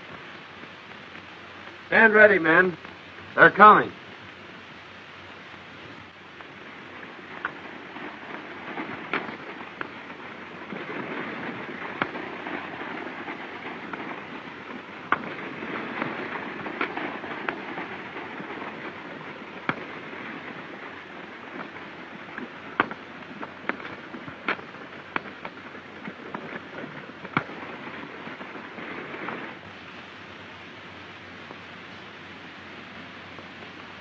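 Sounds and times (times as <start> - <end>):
steady rushing noise: 0.0 - 34.0.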